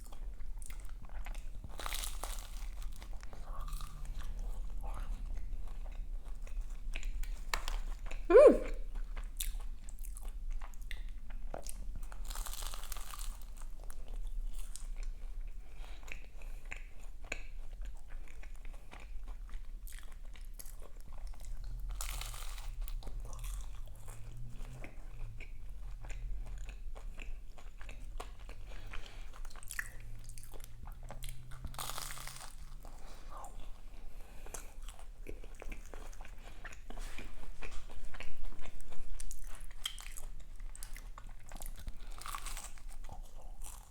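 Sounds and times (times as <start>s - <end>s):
chewing crisp pastry: 0.0s - 43.9s.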